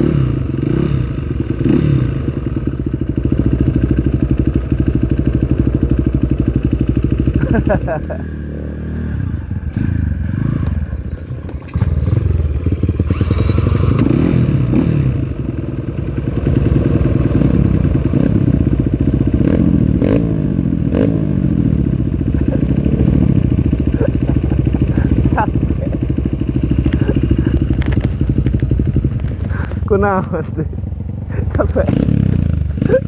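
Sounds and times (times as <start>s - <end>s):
dirt bike engine revving: 0.0s - 2.6s, 6.7s - 33.0s.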